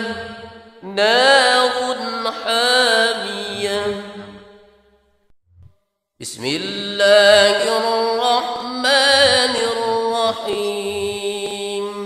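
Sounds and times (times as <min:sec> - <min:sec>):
man chanting recitation: 0:00.0 - 0:04.4, 0:06.2 - 0:12.0.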